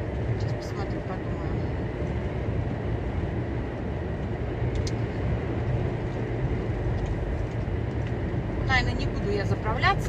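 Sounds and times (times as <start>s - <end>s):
diesel truck engine drone: 0.0s - 10.0s
road noise: 0.0s - 10.0s.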